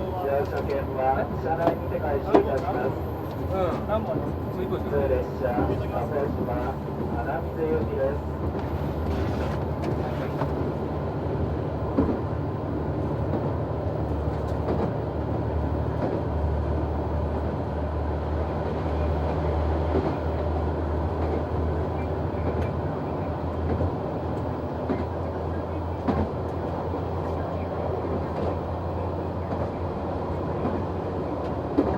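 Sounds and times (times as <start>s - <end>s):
wheels rumbling on rails: 0.0s - 31.9s.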